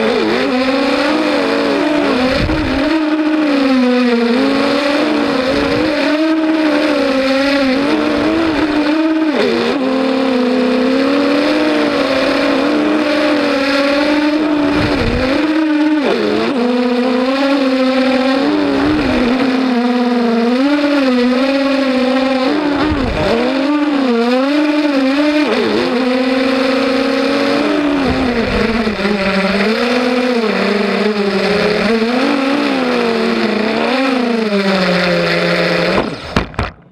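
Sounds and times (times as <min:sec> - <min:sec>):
quadcopter motors whining: 0:00.0 - 0:36.8.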